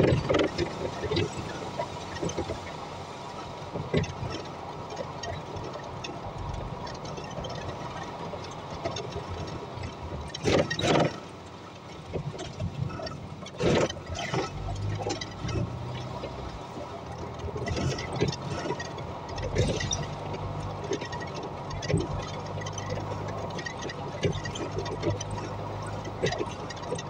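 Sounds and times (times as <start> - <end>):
bus running noise inside: 0.0 - 27.0.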